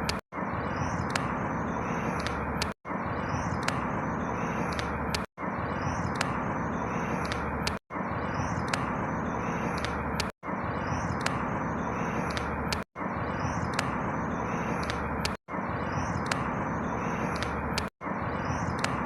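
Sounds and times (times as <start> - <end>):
faint high bird chirps: 0.0 - 19.0.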